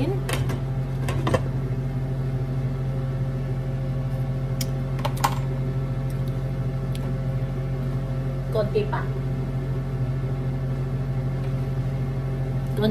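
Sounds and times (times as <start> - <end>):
low appliance hum: 0.0 - 12.9.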